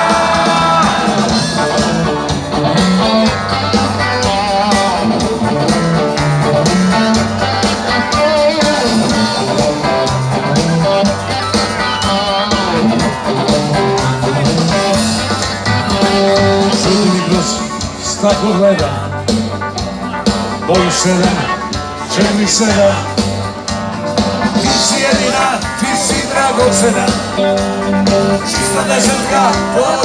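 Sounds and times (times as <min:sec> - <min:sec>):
bass line: 0:00.0 - 0:30.0
electric guitar: 0:00.0 - 0:30.0
rock band playing live: 0:00.0 - 0:30.0
steady drums: 0:00.0 - 0:30.0.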